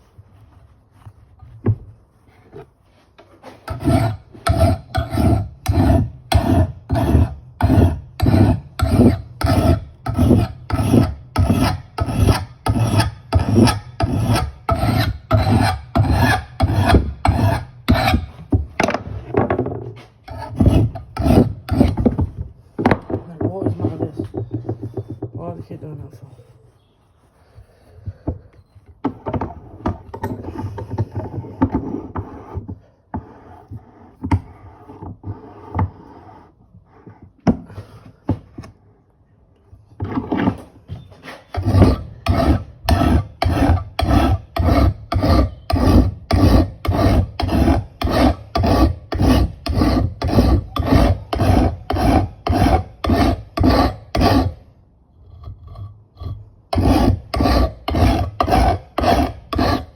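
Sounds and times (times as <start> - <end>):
file scraping axe head: 3.3 - 25.4, 26.4 - 38.8, 40.0 - 59.9.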